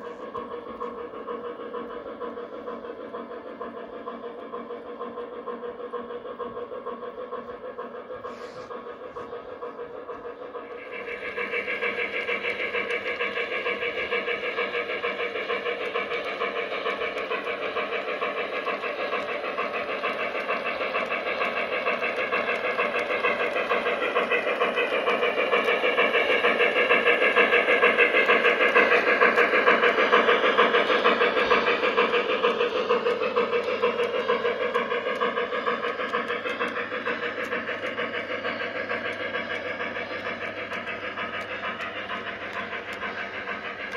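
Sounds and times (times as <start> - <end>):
hum of motors and wheels: 0.0 - 43.9
model steam locomotive chuffing: 0.0 - 43.9.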